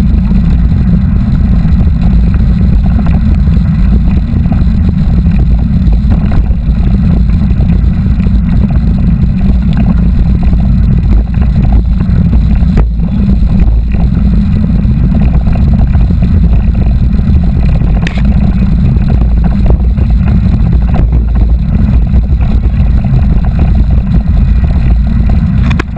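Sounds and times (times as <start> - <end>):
bike rattles and knocks: 0.0 - 25.9
wind buffeting microphone: 0.0 - 25.9.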